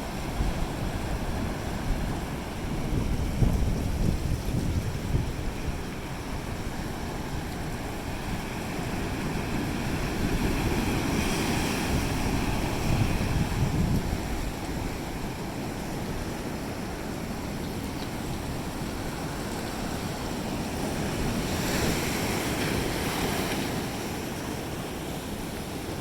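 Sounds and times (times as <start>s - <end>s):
ocean surf washing onto beach: 0.0s - 26.0s
wind buffeting microphone: 0.0s - 26.0s.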